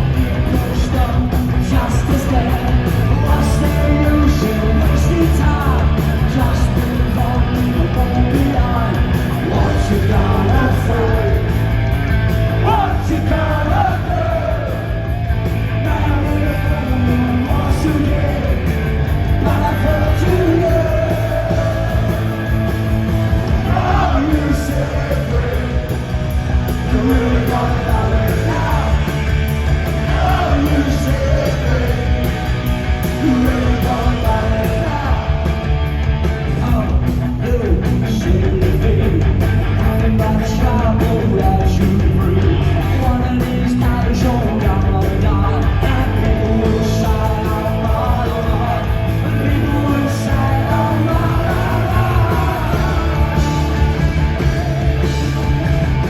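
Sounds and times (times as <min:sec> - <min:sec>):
singer shouting vocals: 0:00.0 - 0:11.8, 0:12.4 - 0:35.6, 0:36.4 - 0:55.6
punk rock band playing live: 0:00.0 - 0:56.0.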